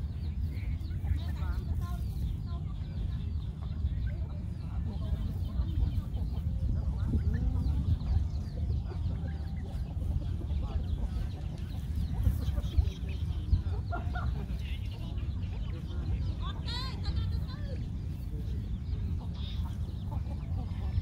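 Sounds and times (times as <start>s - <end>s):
chickens clucking: 0.0s - 21.0s
small birds chirping: 0.0s - 21.0s
steady low rumble: 0.0s - 21.0s.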